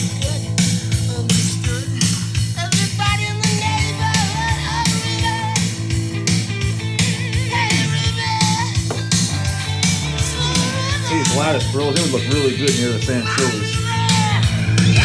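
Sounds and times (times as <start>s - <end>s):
rock song through speakers: 0.0s - 15.0s.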